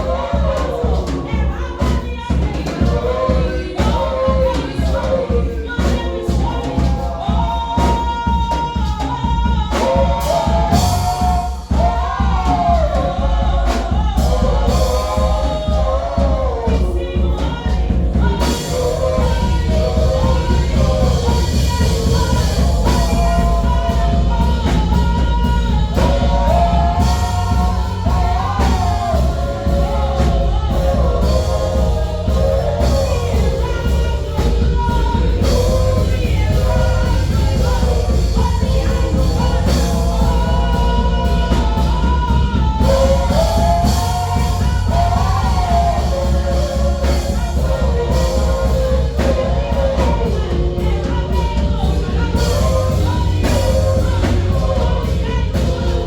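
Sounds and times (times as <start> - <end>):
choir singing: 0.0 - 56.0
drums: 0.0 - 56.0
heavy bass: 0.0 - 56.0.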